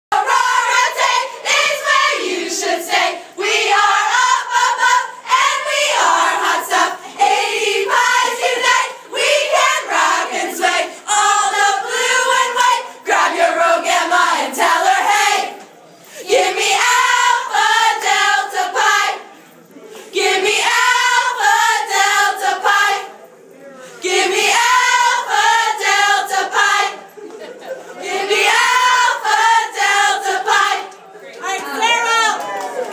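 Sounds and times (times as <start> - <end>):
group of women singing: 0.1 - 23.2, 23.8 - 32.8.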